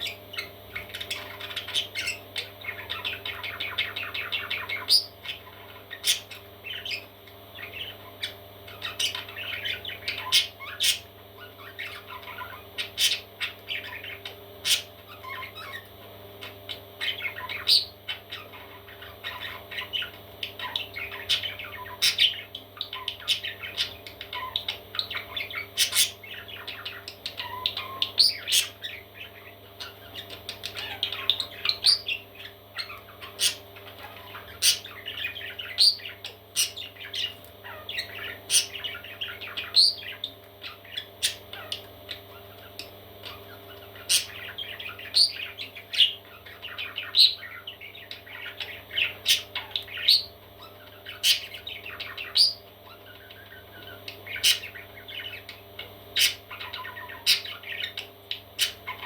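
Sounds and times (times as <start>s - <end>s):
parrot chicks chirping and squawking: 0.0s - 59.0s.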